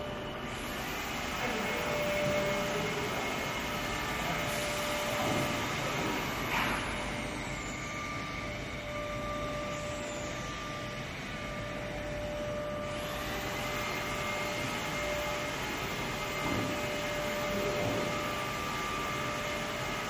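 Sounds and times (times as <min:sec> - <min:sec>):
machine table hum and whine: 0:00.0 - 0:20.0.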